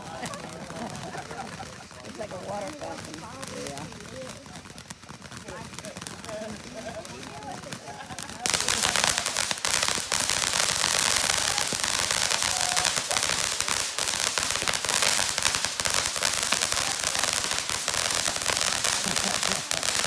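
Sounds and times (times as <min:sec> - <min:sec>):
firework hissing and crackling: 0:00.0 - 0:20.0.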